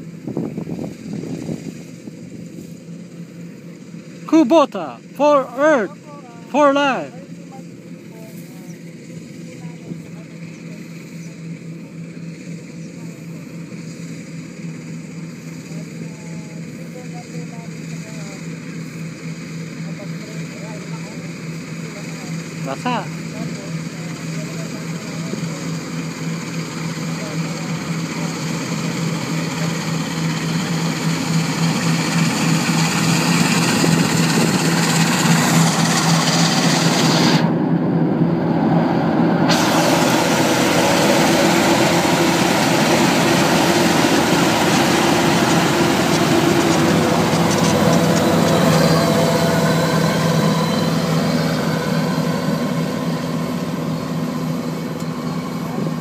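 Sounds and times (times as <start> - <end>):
diesel engine humming: 0.0 - 56.0
threshing machinery noise: 0.0 - 56.0.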